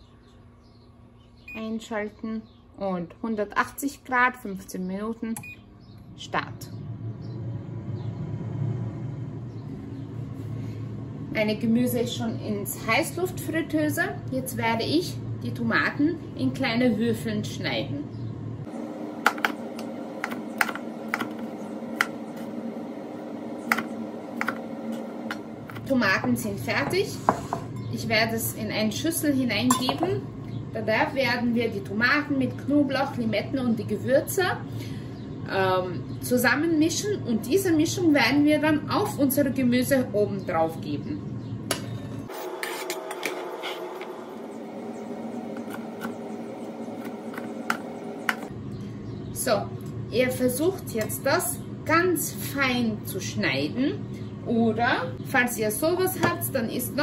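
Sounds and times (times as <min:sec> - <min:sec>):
air fryer humming: 0:04.8 - 0:57.0.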